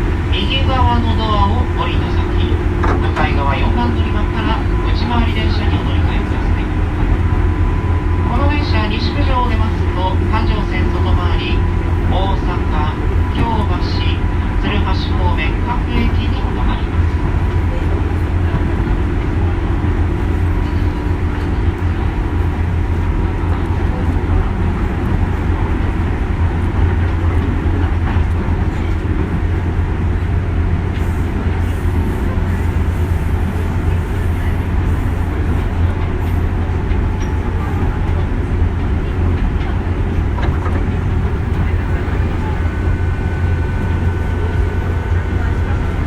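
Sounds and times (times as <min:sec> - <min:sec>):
train wheels and motors rumbling: 0:00.0 - 0:46.0.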